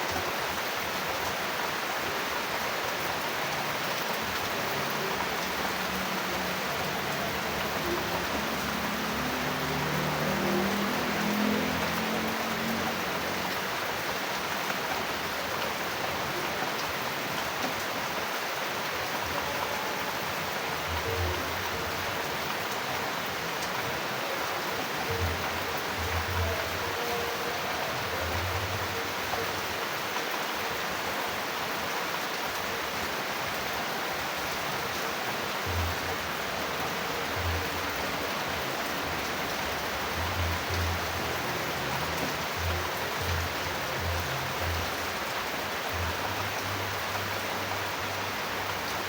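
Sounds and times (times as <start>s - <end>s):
heavy rain hissing: 0.0s - 49.0s.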